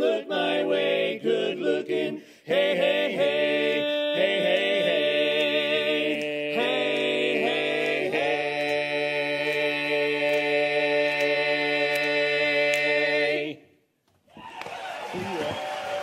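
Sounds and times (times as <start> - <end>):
male barbershop quartet singing: 0.0 - 13.7.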